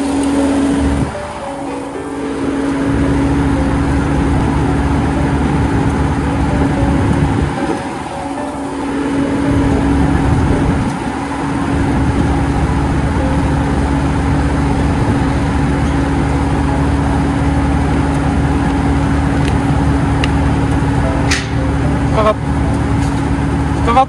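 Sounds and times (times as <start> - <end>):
diesel machinery rumble: 0.0 - 24.0
steady machine hum: 0.0 - 24.0.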